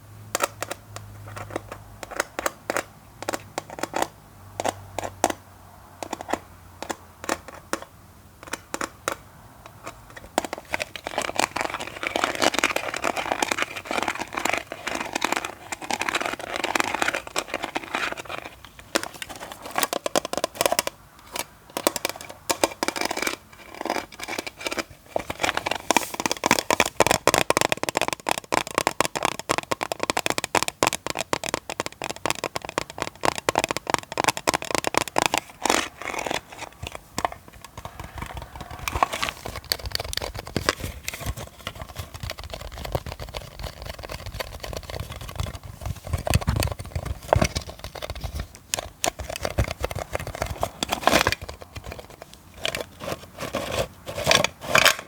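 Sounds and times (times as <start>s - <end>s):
close scratching and crinkling: 1.2s - 5.2s, 9.7s - 28.4s, 32.1s - 55.0s.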